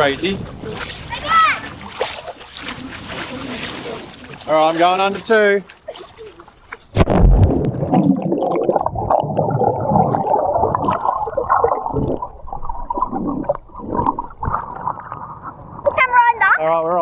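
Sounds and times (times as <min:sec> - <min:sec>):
muffled underwater churning water: 0:00.0 - 0:16.6.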